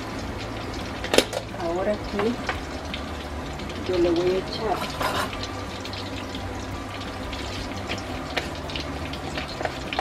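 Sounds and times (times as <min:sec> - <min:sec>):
salami sizzling in oil: 0:00.0 - 0:10.0.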